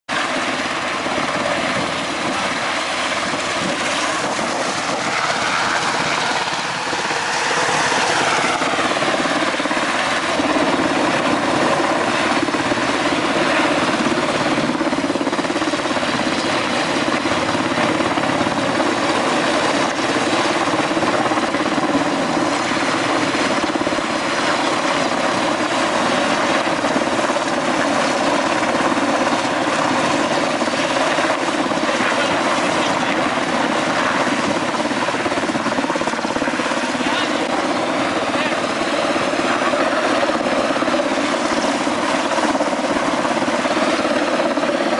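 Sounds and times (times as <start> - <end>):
helicopter rotor and turbine: 0.1 - 44.9.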